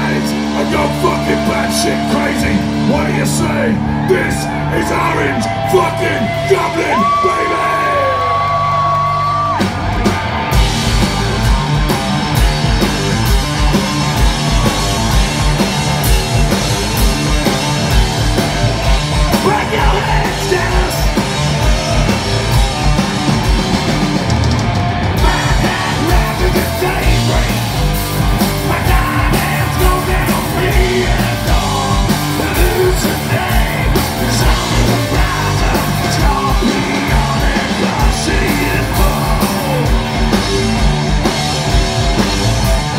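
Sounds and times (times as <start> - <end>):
bass guitar: 0.0 - 42.9
distorted electric guitars: 0.0 - 42.9
driving drum beat: 0.0 - 42.9.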